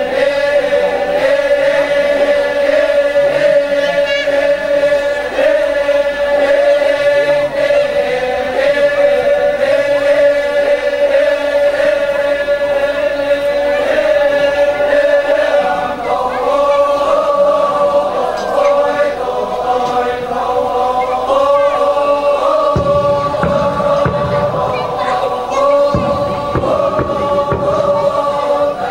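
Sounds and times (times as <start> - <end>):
group chanting in unison: 0.0 - 28.9
higher vocal line: 0.0 - 28.9.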